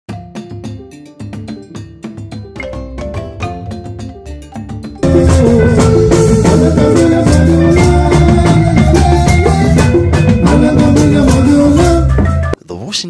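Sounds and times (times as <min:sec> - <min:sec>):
melodic line: 0:00.1 - 0:12.6
steady drum beat: 0:00.1 - 0:12.6.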